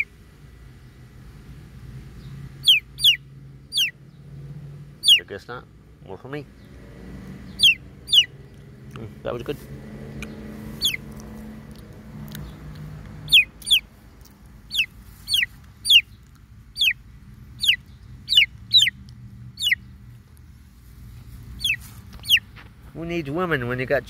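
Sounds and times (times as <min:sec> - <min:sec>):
baby chicks peeping: 0:01.6 - 0:20.5, 0:21.3 - 0:23.9.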